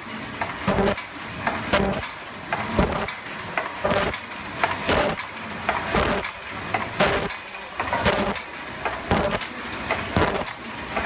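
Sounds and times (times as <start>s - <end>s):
machine mechanism clacking: 0.0s - 11.0s.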